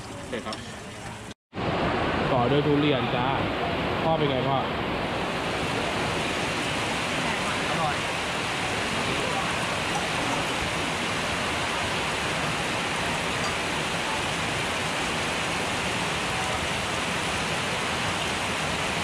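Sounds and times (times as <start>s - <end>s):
heavy rain on a metal roof: 1.2s - 19.0s.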